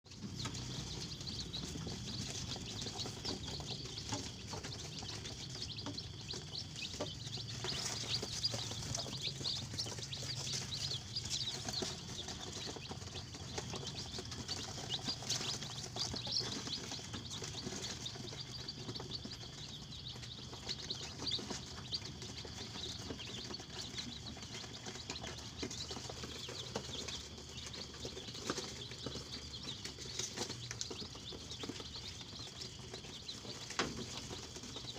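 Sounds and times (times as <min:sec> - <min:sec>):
chickens chirping: 0:00.1 - 0:34.9.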